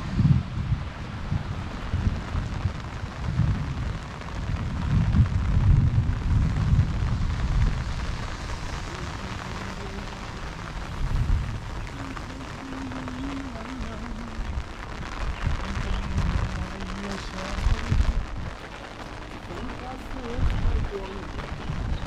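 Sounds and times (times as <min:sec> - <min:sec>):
deep uneven rumble: 0:00.0 - 0:22.0
heavy rain hissing: 0:00.0 - 0:22.0.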